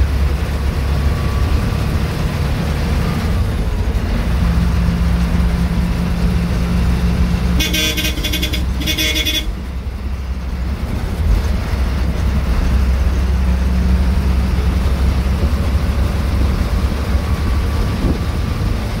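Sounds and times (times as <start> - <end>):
bus diesel engine droning: 0.0 - 19.0
road noise: 0.0 - 19.0.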